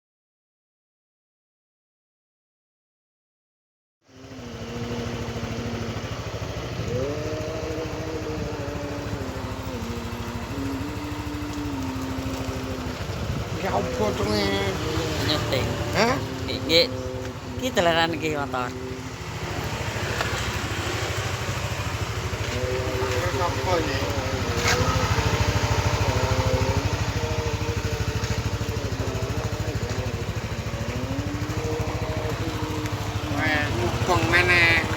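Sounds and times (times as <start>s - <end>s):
scooter engine idling: 4.1s - 34.9s.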